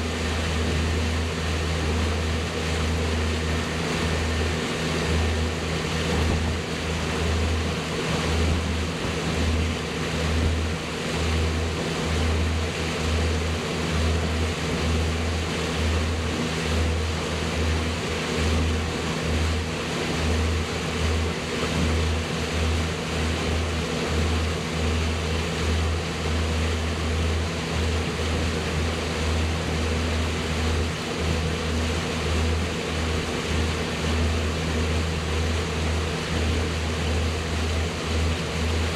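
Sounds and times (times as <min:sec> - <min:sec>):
motorboat engine running: 0:00.0 - 0:38.9
rushing water: 0:00.0 - 0:38.9
wind: 0:00.0 - 0:38.9.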